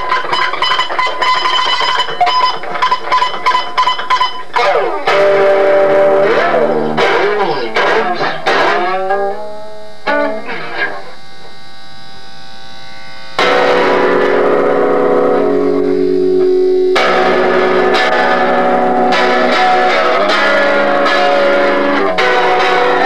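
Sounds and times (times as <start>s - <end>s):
electric guitar music: 0.0s - 23.0s.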